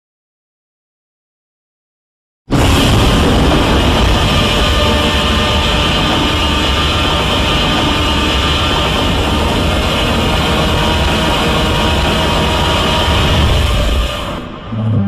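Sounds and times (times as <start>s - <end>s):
roaring rushing rumble: 2.5s - 15.0s.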